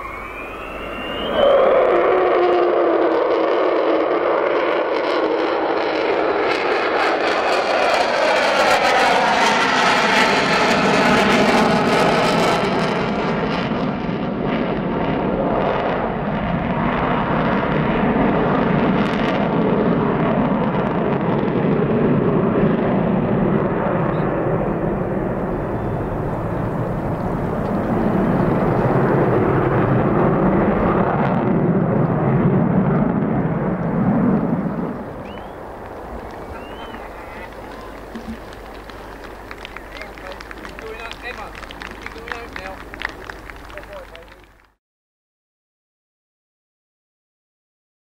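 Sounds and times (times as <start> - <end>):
jet bomber flying past: 0.0 - 44.7.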